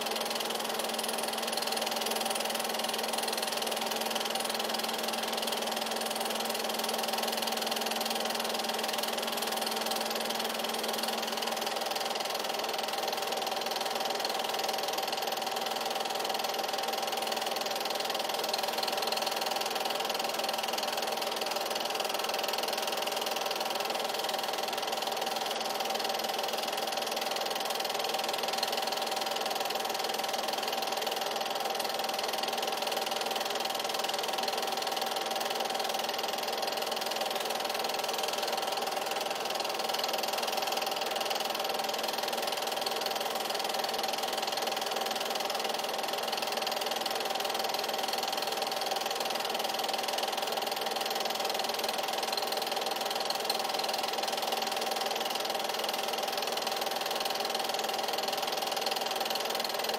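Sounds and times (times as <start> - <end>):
film projector running: 0.0 - 59.9.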